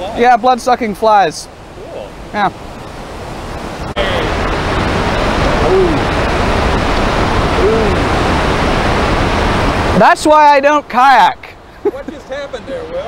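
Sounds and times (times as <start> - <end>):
whitewater roaring: 0.0 - 13.0.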